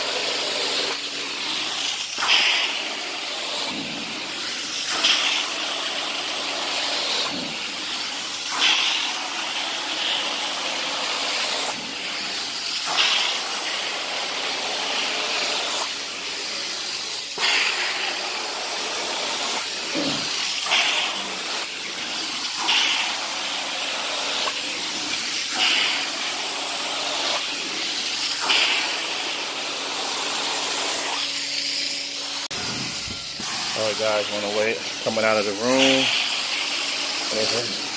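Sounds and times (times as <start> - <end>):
carpet extraction wand hissing: 0.0 - 37.9.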